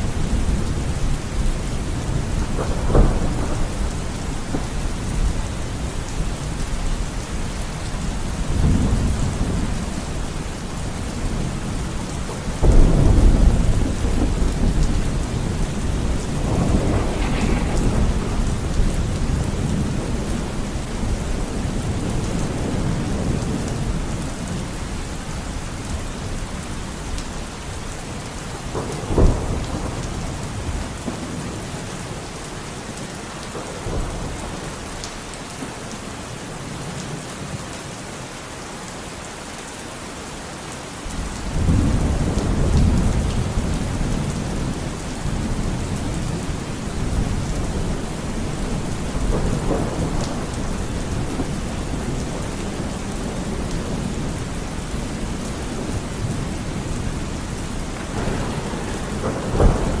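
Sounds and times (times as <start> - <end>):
rolling thunder: 0.0 - 26.9, 28.1 - 32.2, 41.2 - 60.0
heavy rain: 0.0 - 60.0.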